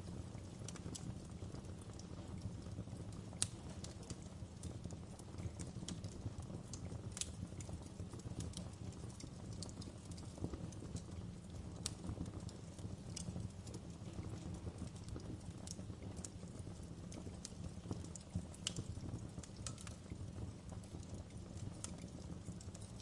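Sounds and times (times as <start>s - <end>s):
low rumble of burning fire: 0.0s - 23.0s
wood fire crackling and popping: 0.0s - 23.0s.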